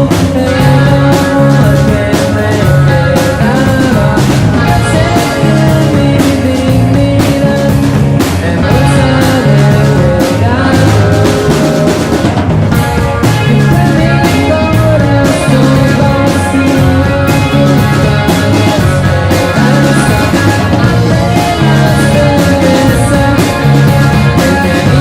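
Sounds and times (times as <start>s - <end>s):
rock band playing live: 0.0s - 25.0s.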